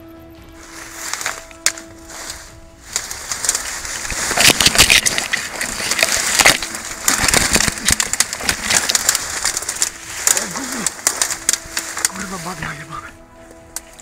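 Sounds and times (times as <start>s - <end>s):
branches rustling and snapping: 0.2s - 14.0s.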